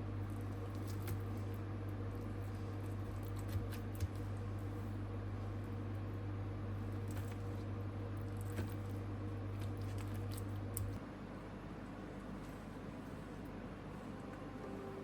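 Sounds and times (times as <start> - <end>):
electrical appliance hum: 0.0 - 15.0.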